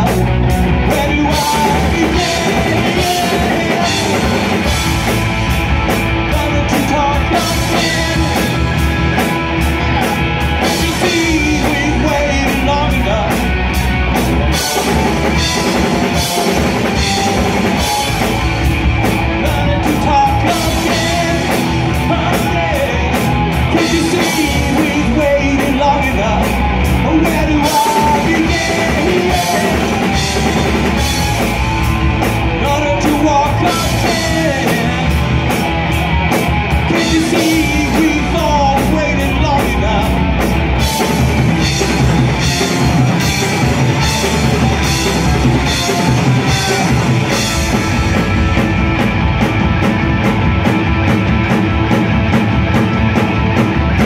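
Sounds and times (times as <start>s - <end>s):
lead singer: 0.0s - 49.7s
live rock band playing: 0.0s - 54.0s.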